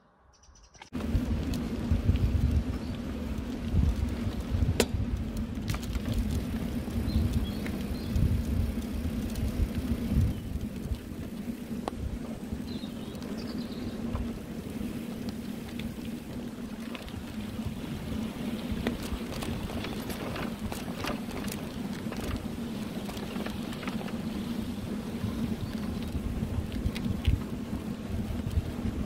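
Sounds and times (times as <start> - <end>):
bicycle clicks and rattles: 0.8 - 29.0
bicycle rumbling on rough track: 0.9 - 29.0
wind rushing over microphone: 1.0 - 29.0.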